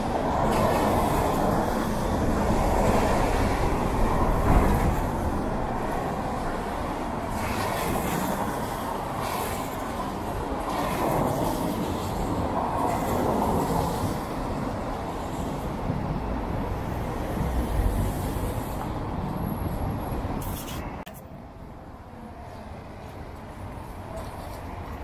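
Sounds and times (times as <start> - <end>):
tyres swishing on wet road: 0.0 - 21.0
train on viaduct: 0.0 - 25.0.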